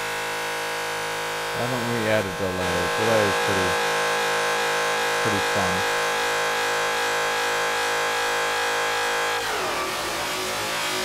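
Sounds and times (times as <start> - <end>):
buzzing feedback drone: 0.0 - 11.0.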